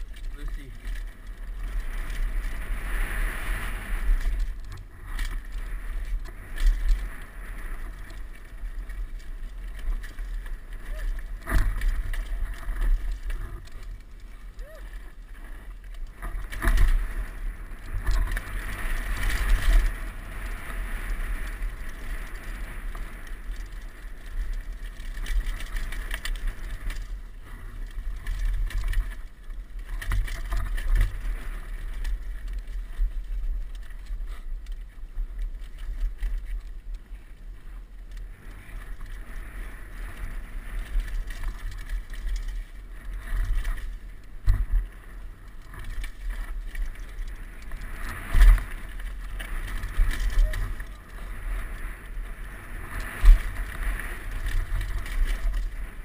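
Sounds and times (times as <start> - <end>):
bike rattling over rocky trail: 0.0 - 56.0
wind rumble on microphone: 0.0 - 56.0.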